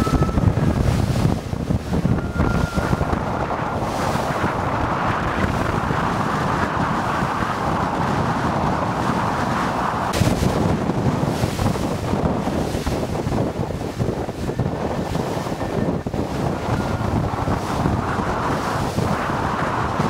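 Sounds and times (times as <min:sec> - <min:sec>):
boat noise: 0:00.0 - 0:20.0
rush of water: 0:00.0 - 0:20.0
wind buffeting microphone: 0:00.0 - 0:20.0.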